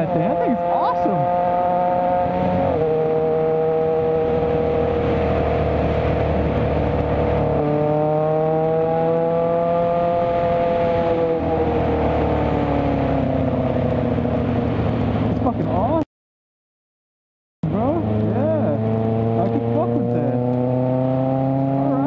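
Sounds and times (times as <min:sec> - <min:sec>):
motorcycle engine accelerating: 0:00.0 - 0:16.0, 0:17.6 - 0:22.0.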